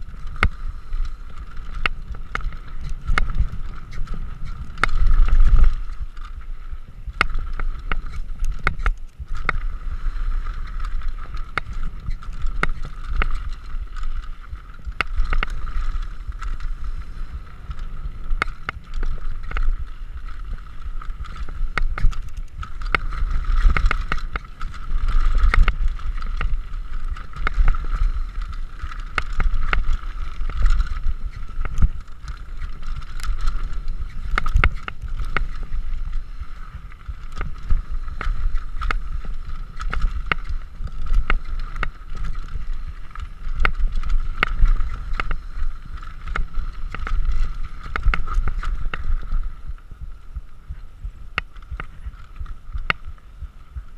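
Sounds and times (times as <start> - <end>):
bike rattling over bumps: 0.0 - 53.9
wind buffeting microphone: 0.0 - 53.9.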